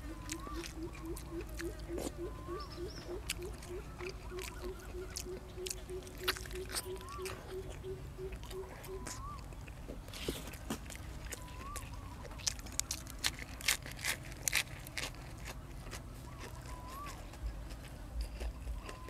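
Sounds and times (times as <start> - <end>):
person chewing: 0.0 - 19.0
vegetables crunching: 0.0 - 19.0.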